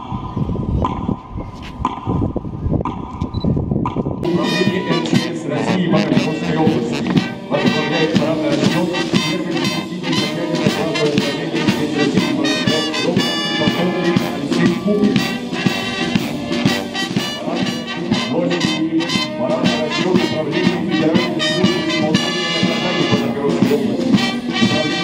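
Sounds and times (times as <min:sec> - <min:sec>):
brass band playing a march: 0:04.2 - 0:25.0.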